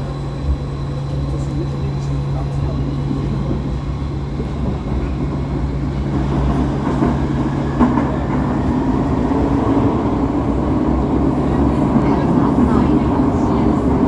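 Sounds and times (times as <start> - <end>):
train traction hum: 0.0 - 14.0
wheel and rail rumble: 0.0 - 14.0.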